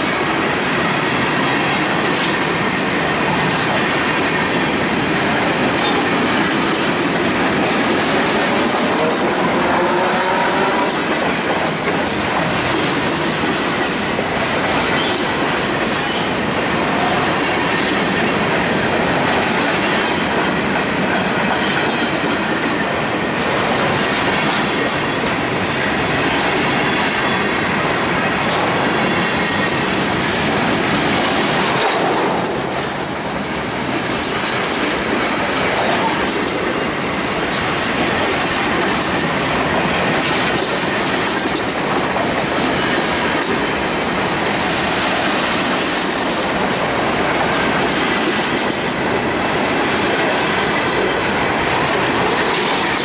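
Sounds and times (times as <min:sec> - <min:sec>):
freight train wheels clattering on rails: 0:00.0 - 0:53.0.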